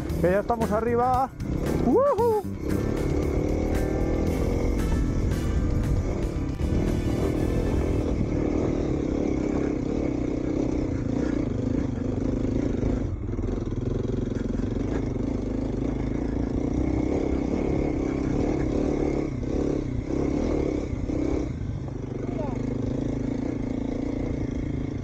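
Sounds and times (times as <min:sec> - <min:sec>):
motorcycle engine under throttle: 0:00.0 - 0:25.0.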